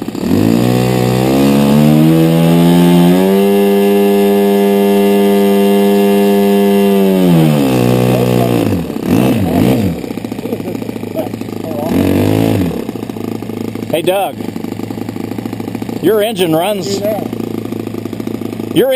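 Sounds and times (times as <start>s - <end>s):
model engine revving: 0.0s - 18.9s.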